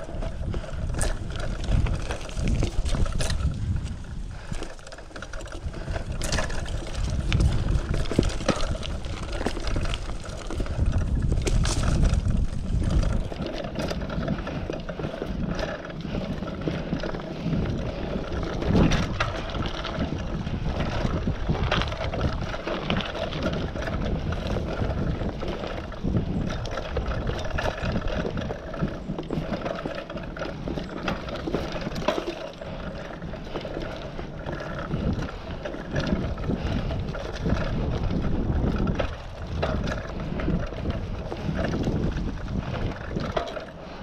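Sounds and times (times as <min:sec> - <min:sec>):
bike rattling over bumps: 0:00.0 - 0:44.0
tyres rolling over dirt and leaves: 0:00.0 - 0:44.0
wind on microphone: 0:00.0 - 0:44.0.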